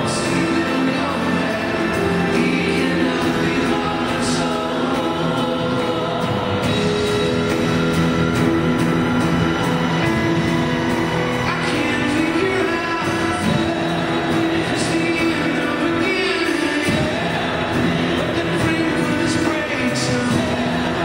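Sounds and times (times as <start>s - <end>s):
rock band and orchestra playing: 0.0s - 21.0s
singing voices: 0.0s - 21.0s.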